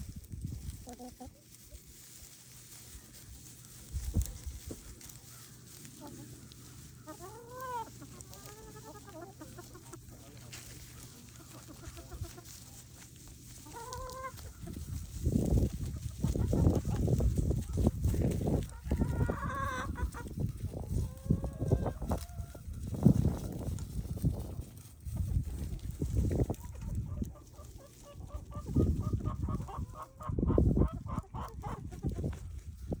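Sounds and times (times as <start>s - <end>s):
chickens clucking and calling: 0.0s - 33.0s.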